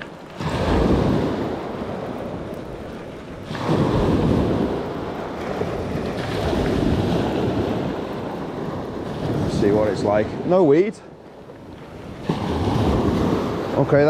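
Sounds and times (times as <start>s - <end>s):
waves washing on shore: 0.0s - 14.0s
wind buffeting microphone: 0.0s - 14.0s.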